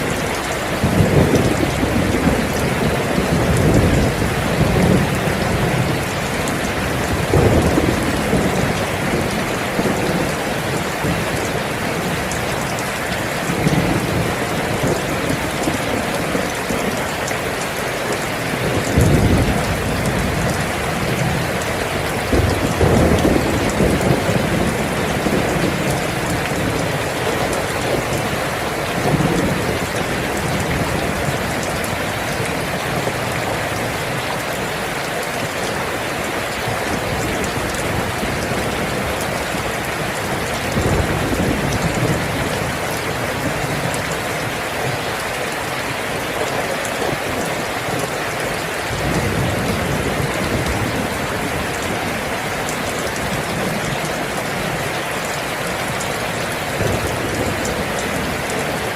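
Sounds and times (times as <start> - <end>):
thunder rumbling: 0.0 - 34.5, 35.2 - 45.1, 46.8 - 54.9
heavy rain falling: 0.0 - 58.9.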